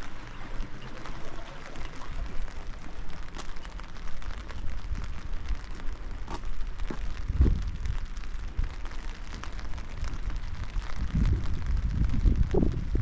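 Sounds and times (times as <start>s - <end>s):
raindrops ticking sharply: 0.0s - 13.0s
steady rain falling: 0.0s - 13.0s.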